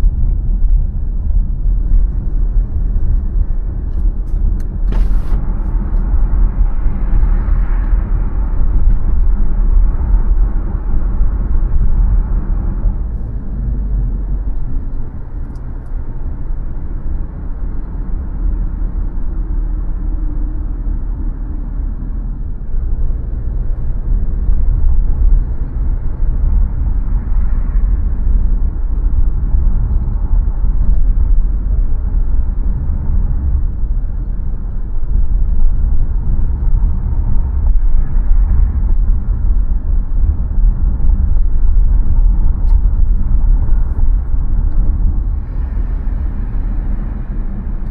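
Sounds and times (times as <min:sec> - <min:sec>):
car driving rumble: 0:00.0 - 0:47.9.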